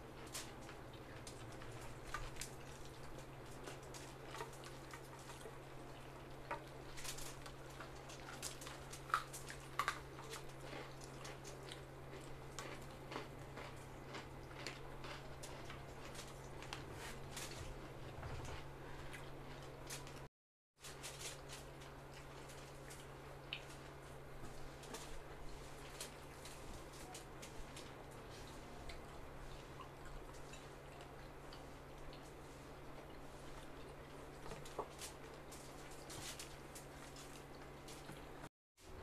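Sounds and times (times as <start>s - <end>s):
people chewing and lip smacking: 0.0s - 20.3s, 21.0s - 38.5s
low steady hum: 0.0s - 39.0s
wet squishes of food: 0.0s - 39.0s.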